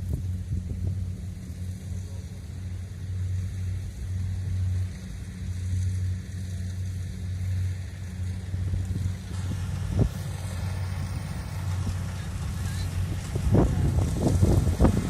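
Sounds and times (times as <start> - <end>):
combine harvester diesel engine: 0.0 - 15.0.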